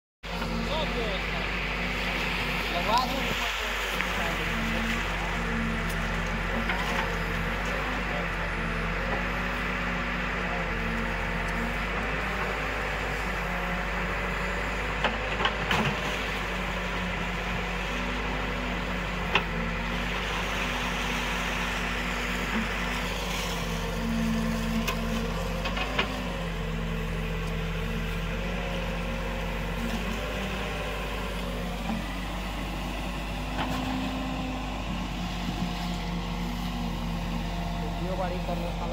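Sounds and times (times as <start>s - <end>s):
backhoe diesel engine running: 0.2s - 38.9s.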